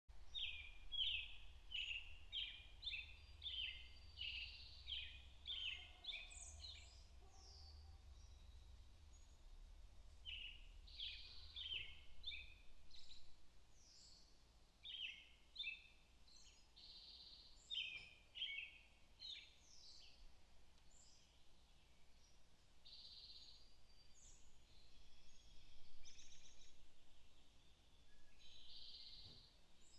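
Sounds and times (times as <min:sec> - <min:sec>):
faint low rumble: 0:00.1 - 0:14.9, 0:19.6 - 0:29.9
songbirds chirping: 0:00.1 - 0:29.9.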